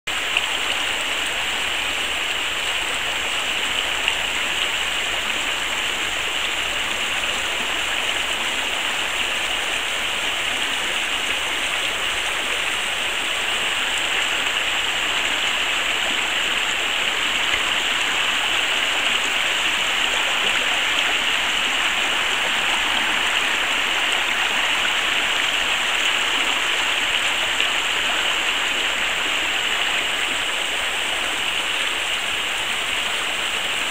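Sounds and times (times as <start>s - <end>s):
waterfall splashing and rushing: 0.1s - 33.9s.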